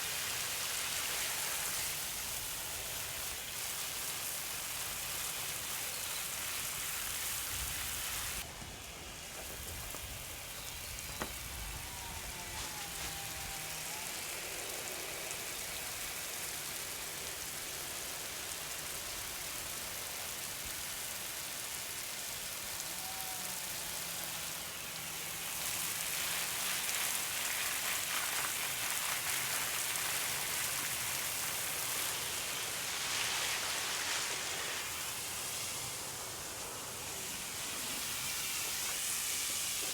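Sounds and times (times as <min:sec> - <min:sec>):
garden hose spraying water: 0:00.0 - 0:39.9.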